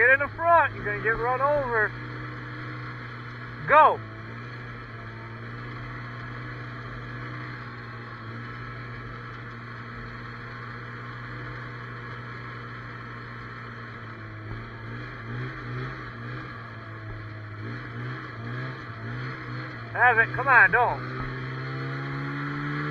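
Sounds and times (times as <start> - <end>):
snowmobile engine running: 0.0 - 22.9.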